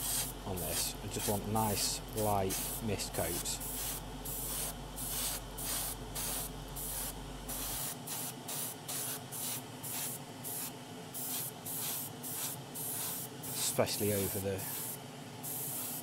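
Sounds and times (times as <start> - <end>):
airbrush hissing bursts: 0.0 - 1.4, 2.5 - 16.0.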